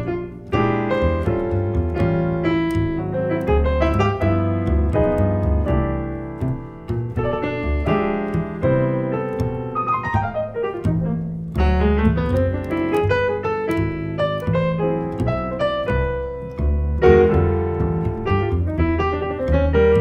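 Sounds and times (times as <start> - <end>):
jazz piano: 0.0 - 20.0
plucked double bass: 0.0 - 20.0.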